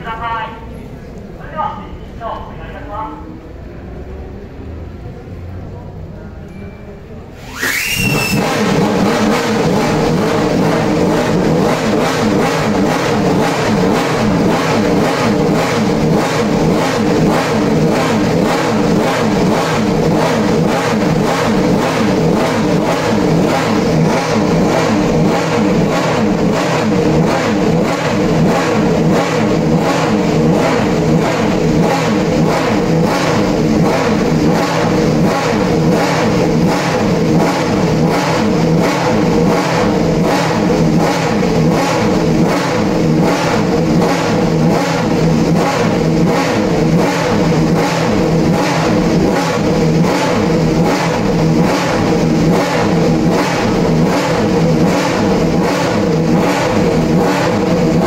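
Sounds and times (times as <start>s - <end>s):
racing engine starting and idling: 0.0s - 6.5s, 7.2s - 58.0s.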